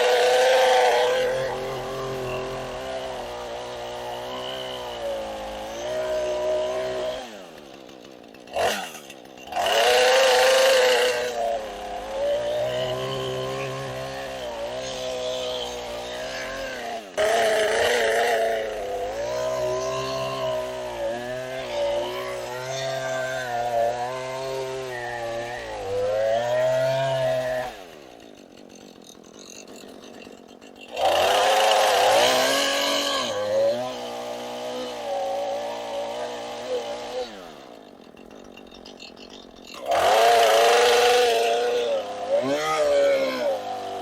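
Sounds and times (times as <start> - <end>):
chainsaw cutting logs: 0.0 - 44.0.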